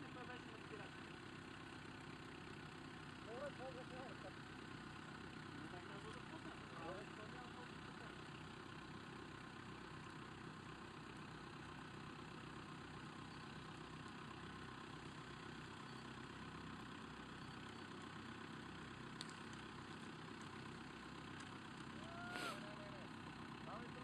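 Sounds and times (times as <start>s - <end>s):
car engine idling faintly: 0.0s - 24.0s.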